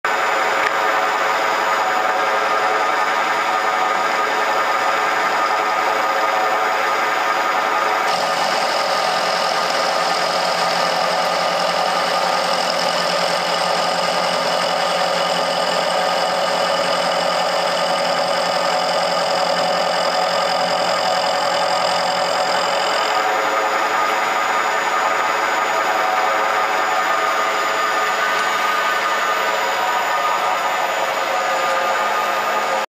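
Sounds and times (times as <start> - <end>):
milling machine running: 0.1 - 32.8
end mill cutting steel whine: 0.1 - 32.9.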